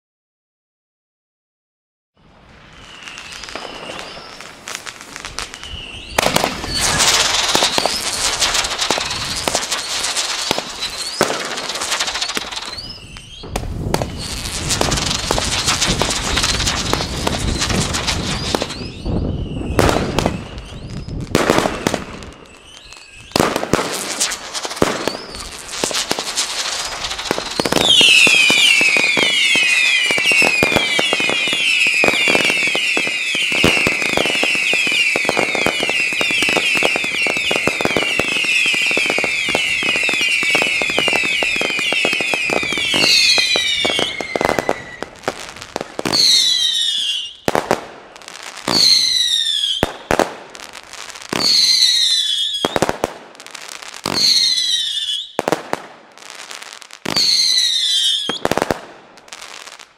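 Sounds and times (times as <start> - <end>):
falling firework whistles: 2.2 - 59.9
firework pops and crackling: 2.7 - 59.9.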